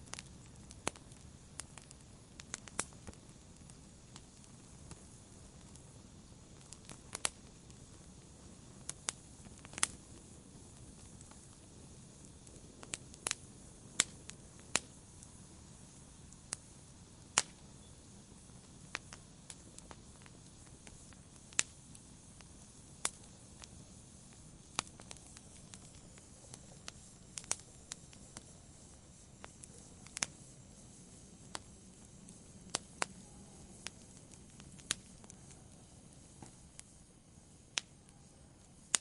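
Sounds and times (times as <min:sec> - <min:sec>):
soft steady hiss: 0:00.0 - 0:39.0
wood fire crackling and popping: 0:00.0 - 0:39.0.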